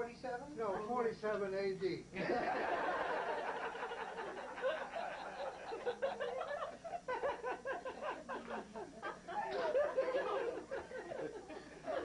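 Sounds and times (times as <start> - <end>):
people laughing: 2.2 - 12.0.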